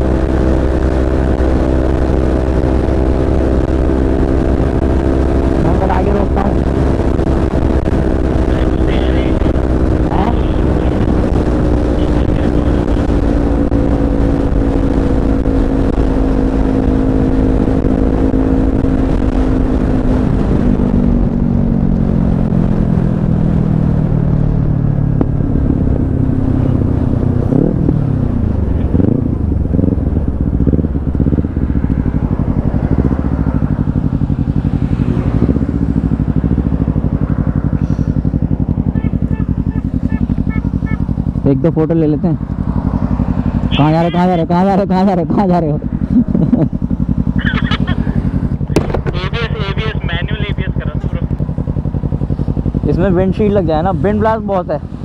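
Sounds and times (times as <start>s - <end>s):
motorcycle engine slowing down: 0.0s - 55.0s.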